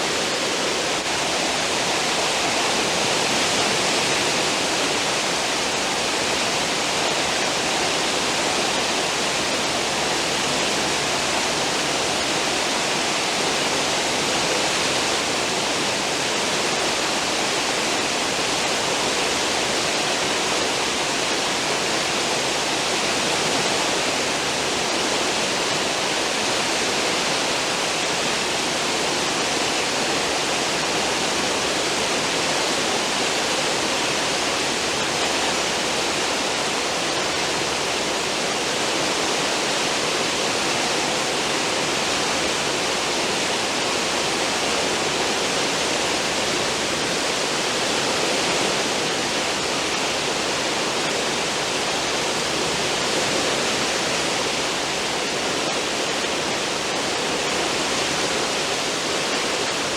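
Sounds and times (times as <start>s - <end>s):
ship wake rushing water: 0.0s - 59.9s.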